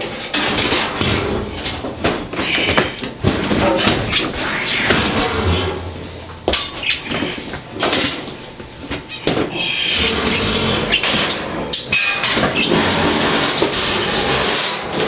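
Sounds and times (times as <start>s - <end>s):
metal dryer parts scraping and rattling: 0.0s - 15.0s.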